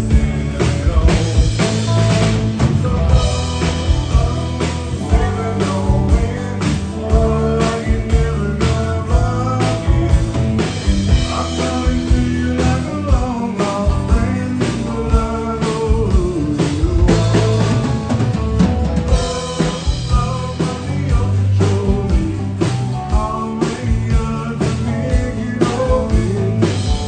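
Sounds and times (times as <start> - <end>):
band playing country-rock song: 0.0 - 27.0
drum kit steady beat: 0.0 - 27.0.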